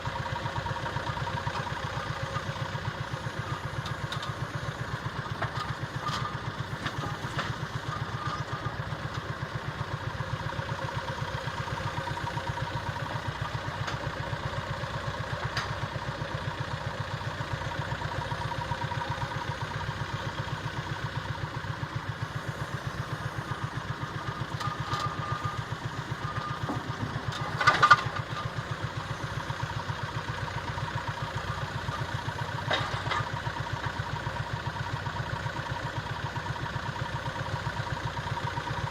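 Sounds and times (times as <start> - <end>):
utility vehicle engine running: 0.0 - 38.9.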